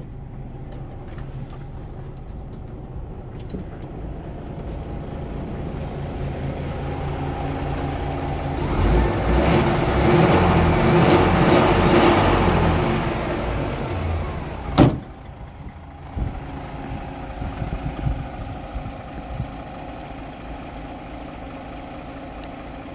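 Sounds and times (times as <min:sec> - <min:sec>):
diesel truck engine: 0:00.0 - 0:22.9.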